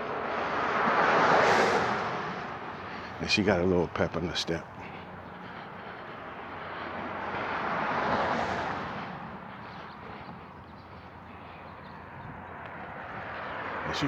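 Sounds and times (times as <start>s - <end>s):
outdoor background noise: 0.0s - 14.0s
vehicle passing by: 0.0s - 14.0s.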